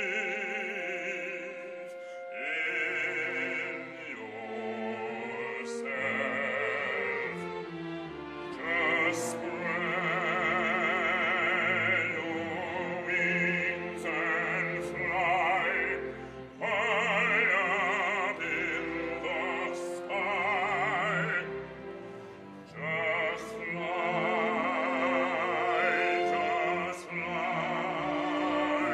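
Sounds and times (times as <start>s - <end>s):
operatic singing: 0.0s - 28.9s
sustained accompaniment: 0.0s - 28.9s.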